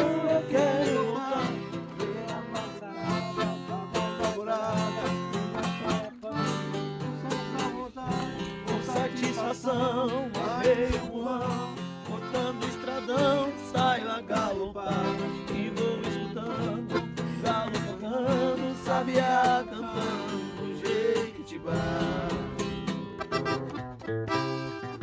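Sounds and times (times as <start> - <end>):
accordion melody: 0.0 - 25.0
strummed acoustic guitar: 0.0 - 25.0.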